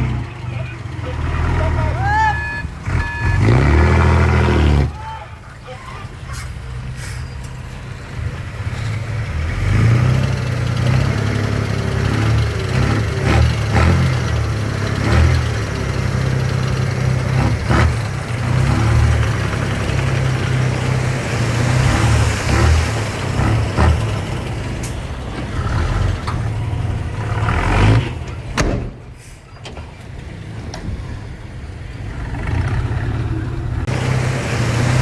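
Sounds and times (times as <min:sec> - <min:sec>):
heavy machinery diesel engine: 0:00.0 - 0:35.0.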